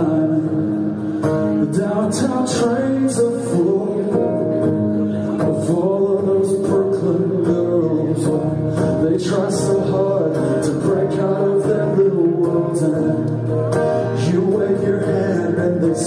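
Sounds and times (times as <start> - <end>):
acoustic guitar: 0.0 - 16.0
man singing: 0.0 - 16.0.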